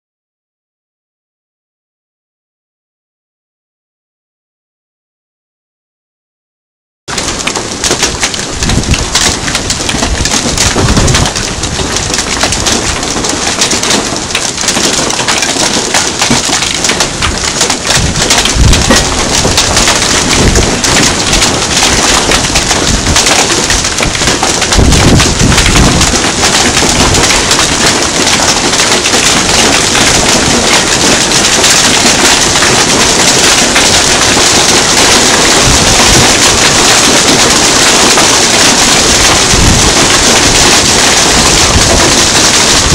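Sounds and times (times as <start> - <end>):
hail pelting wooden deck: 7.1 - 42.9.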